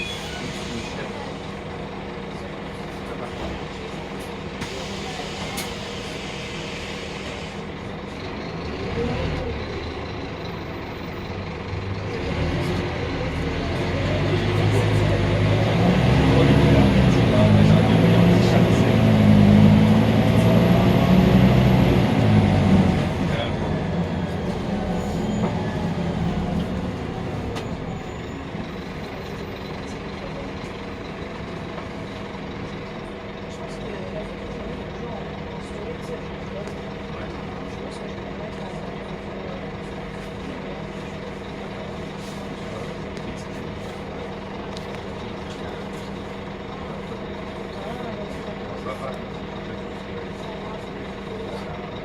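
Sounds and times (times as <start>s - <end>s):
bus engine hum: 0.0s - 52.0s
road noise: 0.0s - 52.0s.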